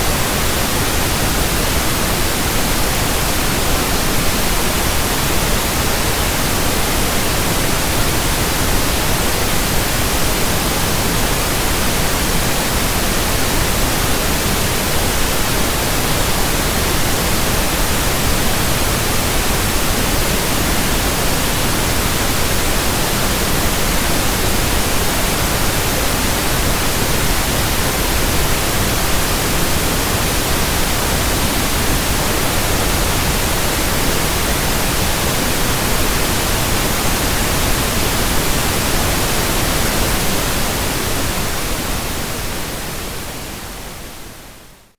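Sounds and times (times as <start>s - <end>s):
pink noise hiss: 0.0s - 44.9s.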